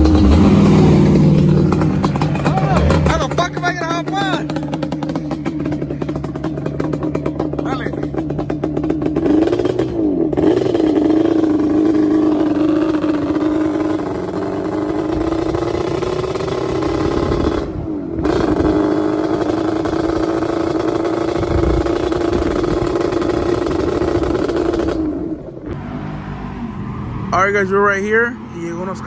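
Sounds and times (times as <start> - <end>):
vehicle engine running: 0.0 - 25.8.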